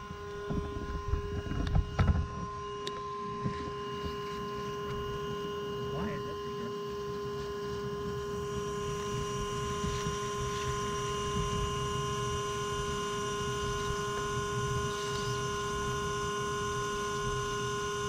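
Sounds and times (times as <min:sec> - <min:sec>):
vacuum motor humming and whining: 0:00.0 - 0:18.0.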